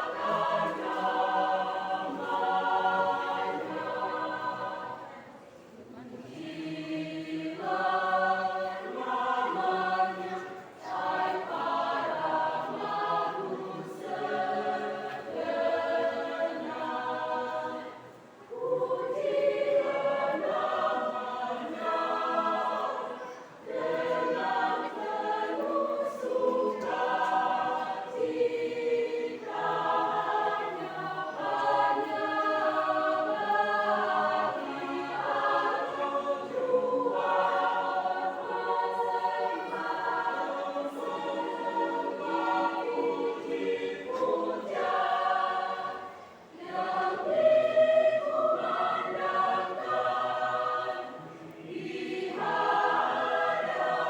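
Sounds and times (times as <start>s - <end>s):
church choir singing: 0.0s - 54.0s.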